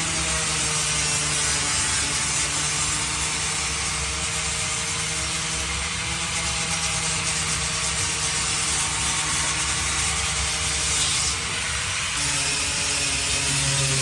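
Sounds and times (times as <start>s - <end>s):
electric sander on wood: 0.0s - 14.0s.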